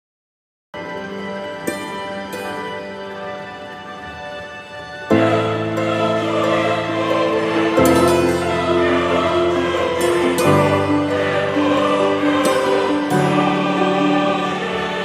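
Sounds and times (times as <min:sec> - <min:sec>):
choir-like held chords: 0:00.8 - 0:15.0.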